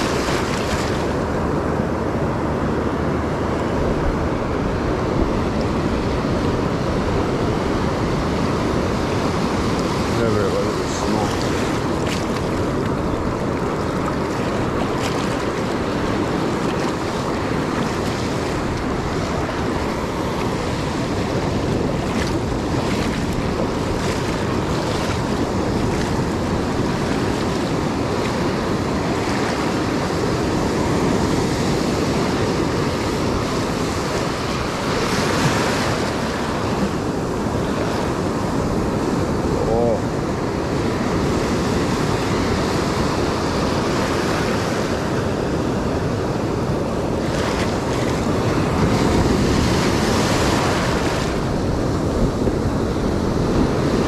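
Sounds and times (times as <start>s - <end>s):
ocean surf washing: 0.0s - 54.0s
wind on microphone: 0.0s - 54.0s.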